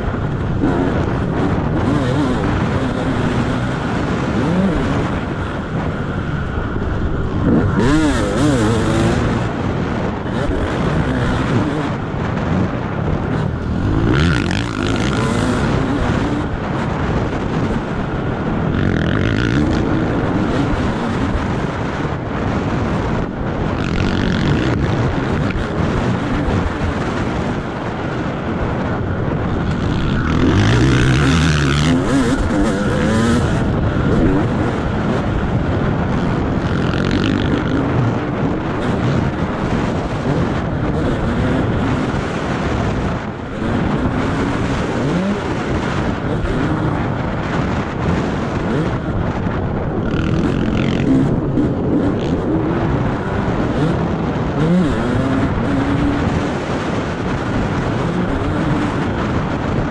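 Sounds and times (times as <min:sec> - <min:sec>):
dirt bike engine revving: 0:00.0 - 0:59.9
wind hissing over microphone: 0:00.0 - 0:59.9.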